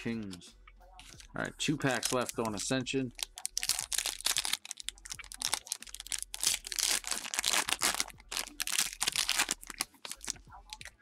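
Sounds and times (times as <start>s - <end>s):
foil wrapper crinkling and tearing: 1.8s - 10.9s.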